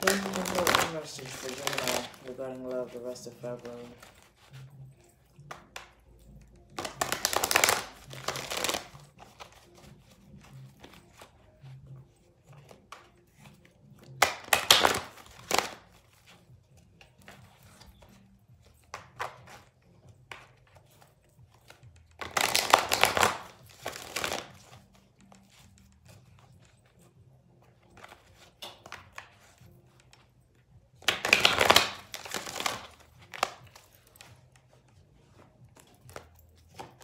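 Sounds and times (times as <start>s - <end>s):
cards shuffled by hand: 0.0s - 37.0s.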